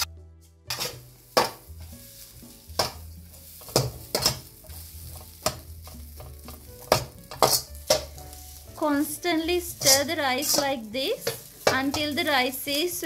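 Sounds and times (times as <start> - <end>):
rice sizzling: 0.0 - 13.0.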